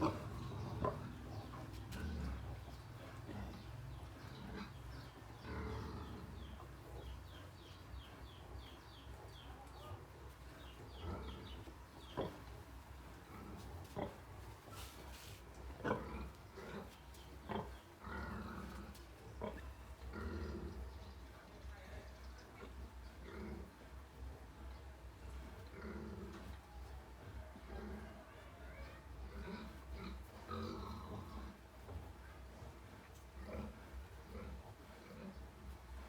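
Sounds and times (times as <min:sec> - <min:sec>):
sow grunting: 0:00.0 - 0:21.2, 0:27.6 - 0:36.0.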